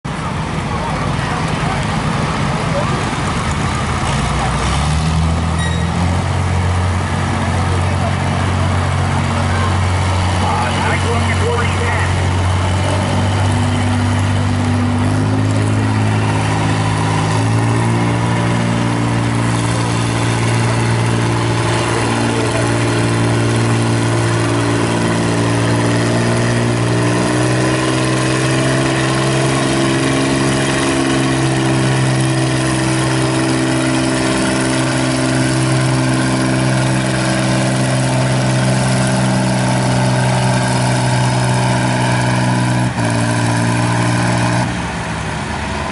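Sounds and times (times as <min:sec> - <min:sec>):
tractor engine under load: 0:00.0 - 0:45.9.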